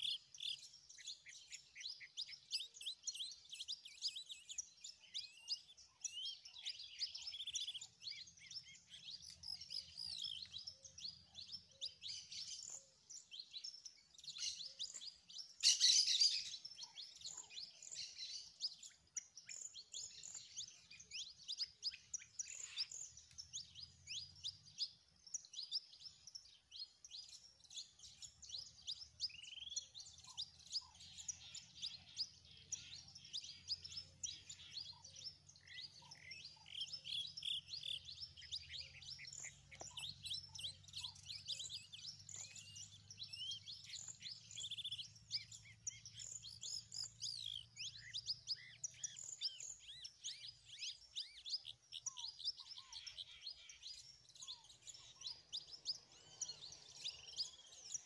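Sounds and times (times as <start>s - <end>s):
small birds chirping chorus: 0.0s - 58.0s.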